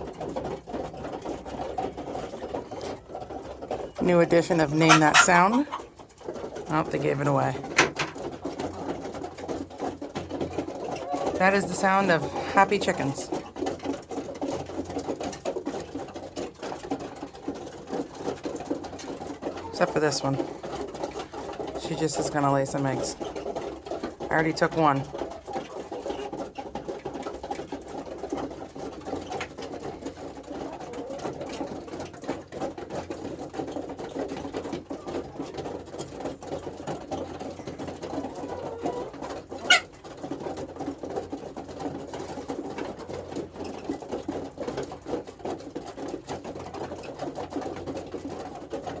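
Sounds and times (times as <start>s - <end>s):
hens murmuring: 0.0s - 49.0s.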